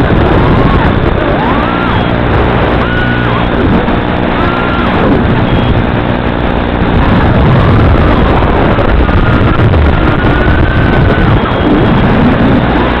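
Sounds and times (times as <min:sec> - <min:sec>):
quadcopter propellers buzzing whine: 0:00.0 - 0:13.0.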